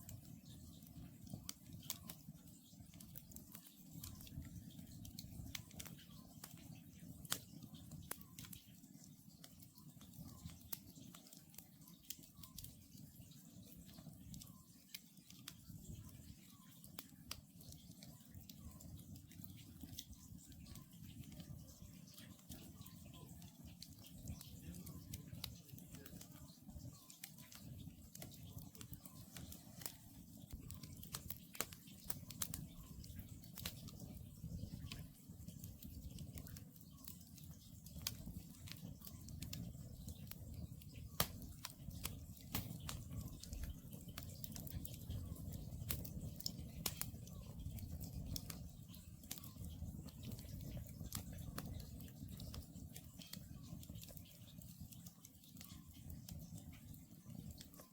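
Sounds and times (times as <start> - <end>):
campfire crackling: 0.0 - 57.9.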